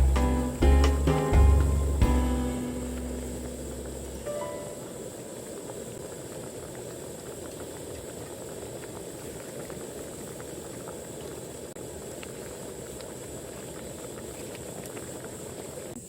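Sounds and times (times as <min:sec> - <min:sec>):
pot of food boiling: 0:02.0 - 0:16.0.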